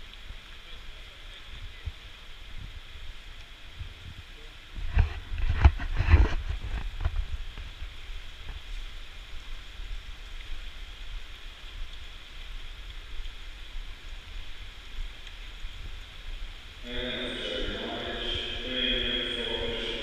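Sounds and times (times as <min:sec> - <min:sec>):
pool water hissing: 0:00.0 - 0:20.0.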